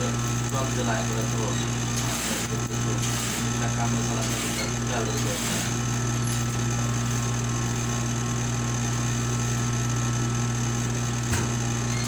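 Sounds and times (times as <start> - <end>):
electric sewing machine running: 0.0 - 12.0.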